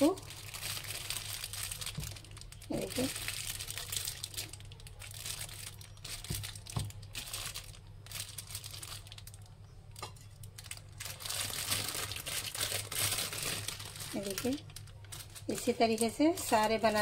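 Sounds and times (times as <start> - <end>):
plastic sheet crinkling: 0.0 - 17.0.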